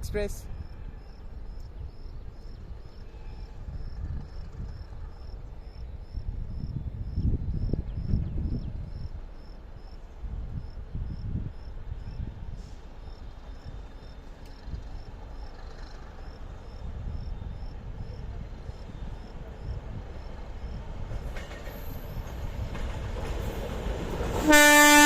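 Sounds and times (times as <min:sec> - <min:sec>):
cricket chirping: 0:00.5 - 0:22.2.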